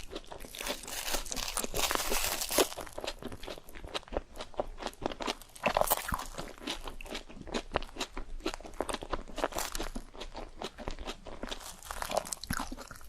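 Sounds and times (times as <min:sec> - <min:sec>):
crunching crispy fried food: 0:00.0 - 0:13.0.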